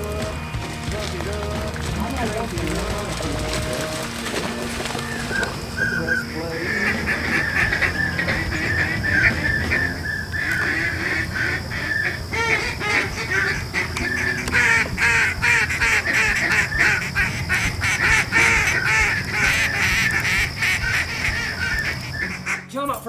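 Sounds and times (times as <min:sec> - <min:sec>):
ducks quacking: 0:00.0 - 0:22.8.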